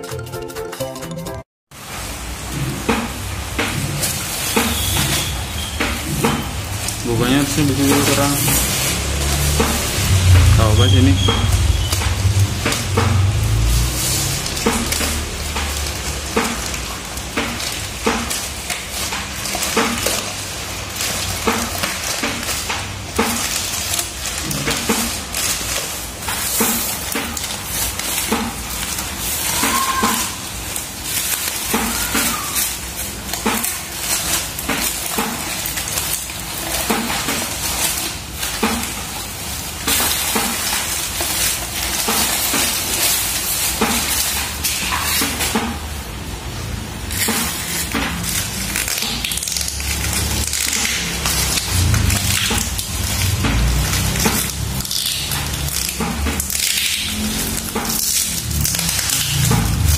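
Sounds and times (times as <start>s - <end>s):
plastic packaging crinkling: 1.8s - 59.9s.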